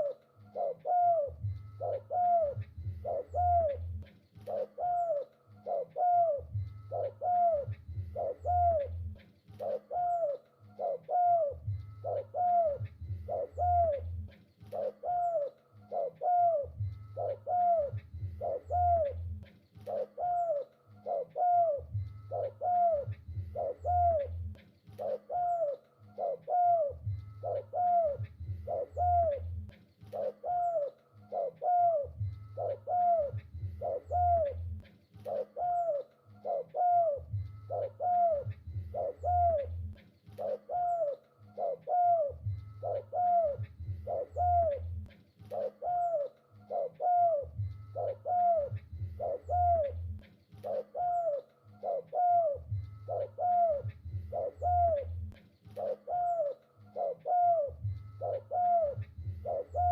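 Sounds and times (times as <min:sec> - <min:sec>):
dove calling: 0:00.0 - 0:59.9.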